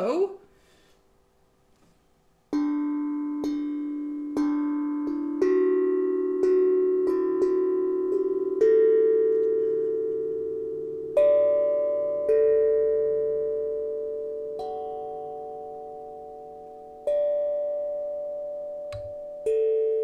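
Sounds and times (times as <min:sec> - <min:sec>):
steel tongue drum notes: 0:02.5 - 0:20.0.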